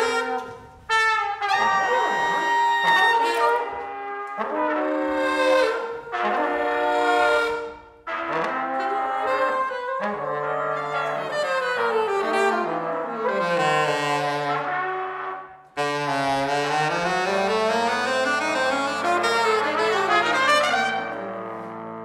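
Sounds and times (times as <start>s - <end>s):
jazz horn section playing: 0.0s - 22.0s.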